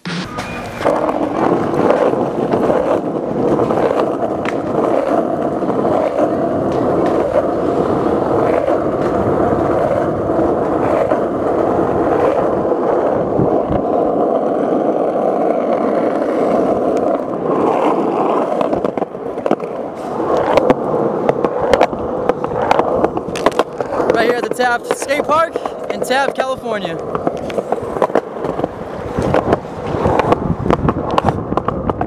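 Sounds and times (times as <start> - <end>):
skateboard wheels clacking over joints: 0.0 - 32.0
skateboard wheels rolling on pavement: 0.0 - 32.0.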